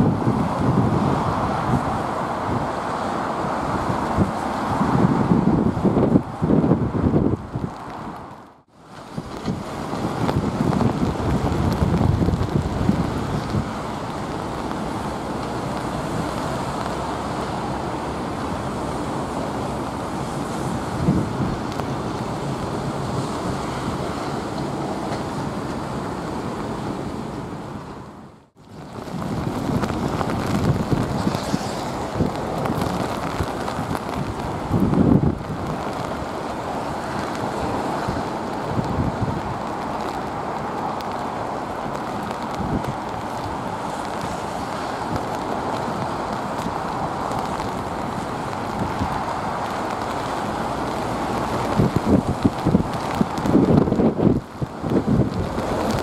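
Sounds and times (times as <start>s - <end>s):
rain: 0.0s - 56.0s
wind buffeting microphone: 0.0s - 56.0s.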